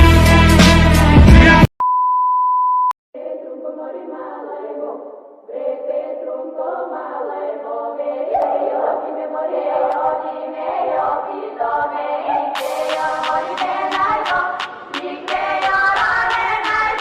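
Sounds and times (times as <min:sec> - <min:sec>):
choir singing long notes: 0:03.2 - 0:17.0.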